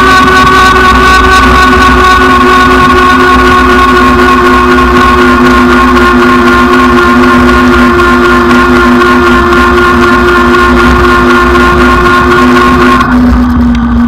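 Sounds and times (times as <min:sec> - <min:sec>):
electric bike motor whining: 0:00.0 - 0:14.0.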